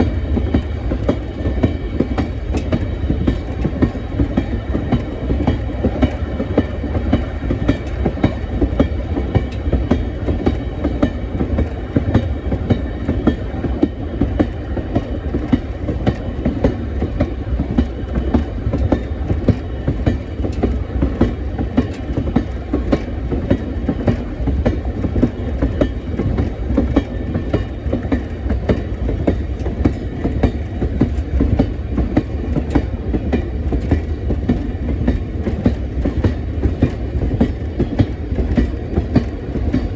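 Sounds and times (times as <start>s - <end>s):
train rumbling: 0.0s - 39.9s
train wheels clicking over rails: 0.0s - 39.9s.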